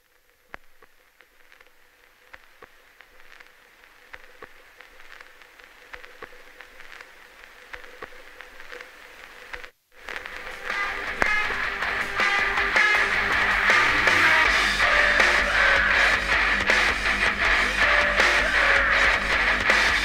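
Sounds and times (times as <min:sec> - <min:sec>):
crackling texture: 0:00.0 - 0:20.0.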